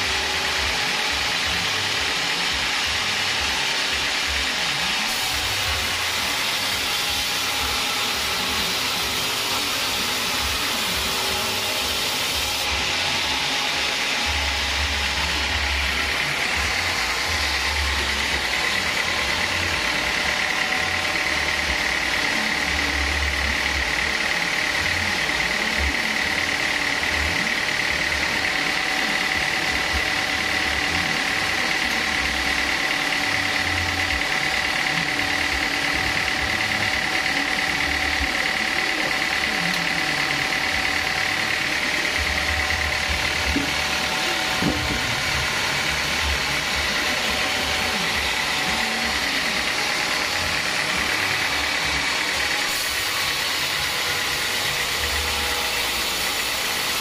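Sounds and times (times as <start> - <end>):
band sawmill drone: 0.0 - 57.0
high whine of blade drive: 0.0 - 57.0.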